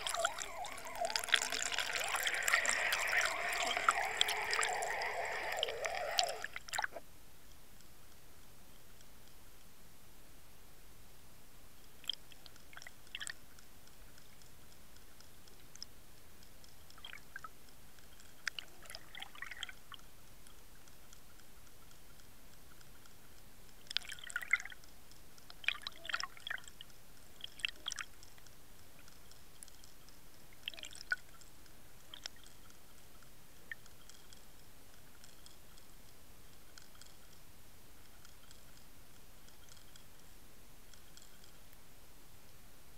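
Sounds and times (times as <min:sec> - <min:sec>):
underwater clicks and crackles: 0:00.0 - 0:09.7, 0:11.8 - 0:41.8
faint hiss: 0:00.0 - 0:42.9.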